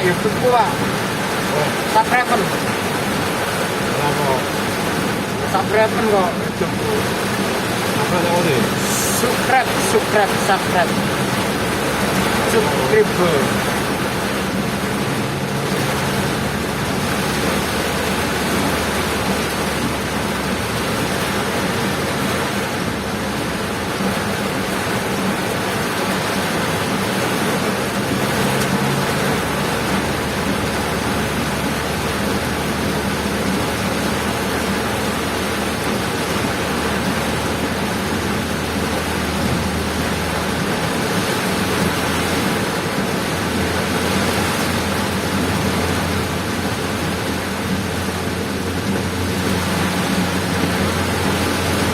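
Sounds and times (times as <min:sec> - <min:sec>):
heavy rain: 0:00.0 - 0:51.9
low engine hum: 0:00.0 - 0:51.9
vehicle road noise: 0:00.0 - 0:51.9.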